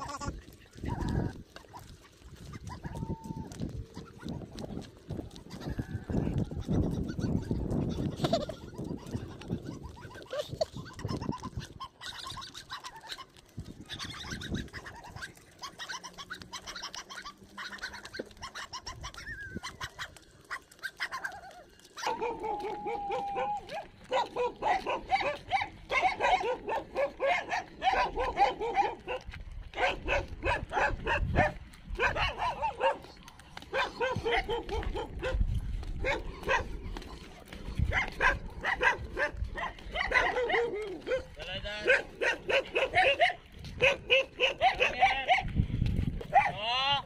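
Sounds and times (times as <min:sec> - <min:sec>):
dogs barking and yelping: 0:00.0 - 0:46.6.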